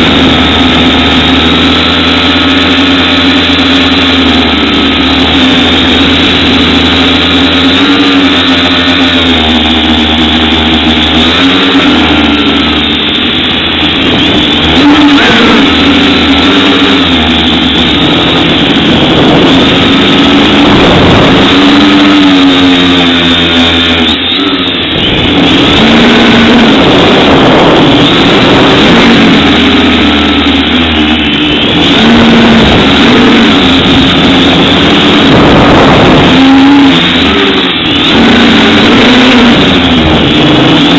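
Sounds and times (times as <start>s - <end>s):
drone motors whining: 0.0s - 40.9s
rushing air noise: 0.0s - 40.9s.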